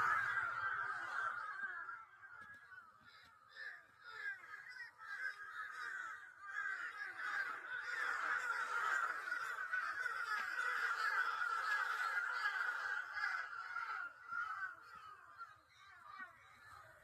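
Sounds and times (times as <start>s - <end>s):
crows cawing: 0.0s - 17.0s.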